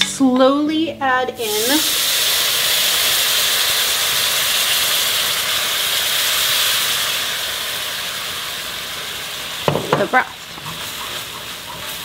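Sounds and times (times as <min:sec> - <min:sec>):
roux sizzling in skillet: 0:01.3 - 0:12.0.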